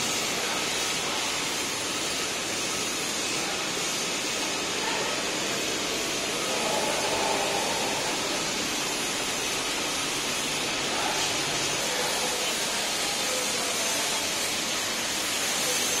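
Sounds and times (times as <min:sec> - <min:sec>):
laser cutting machine hissing: 0:00.0 - 0:16.0.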